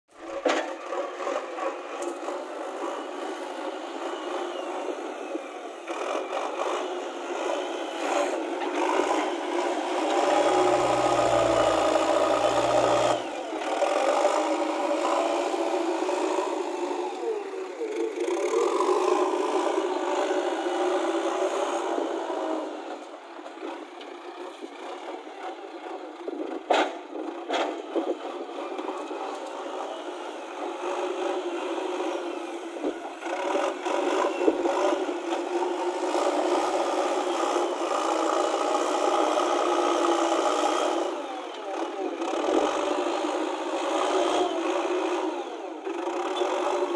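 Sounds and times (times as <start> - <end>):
diesel engine working under load: 0.1 - 46.9.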